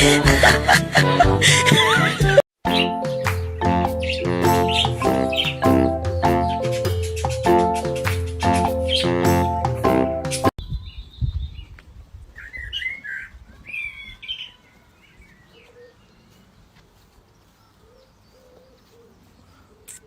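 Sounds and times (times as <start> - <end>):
bird chirping: 2.7 - 9.4, 10.4 - 20.0.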